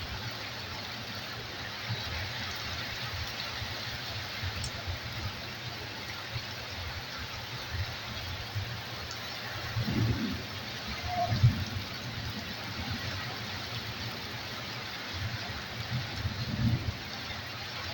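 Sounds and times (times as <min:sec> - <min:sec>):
heavy rain falling: 0:00.0 - 0:17.9.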